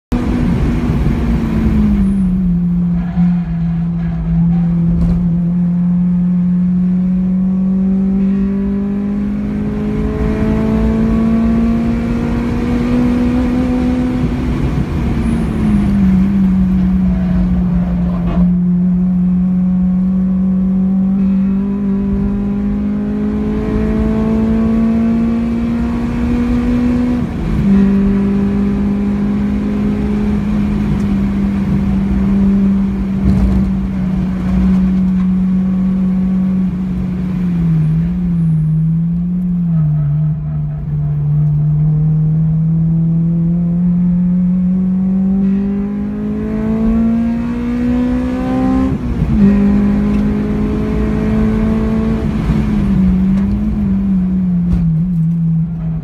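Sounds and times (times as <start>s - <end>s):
car engine revving in cabin: 0.1s - 56.0s.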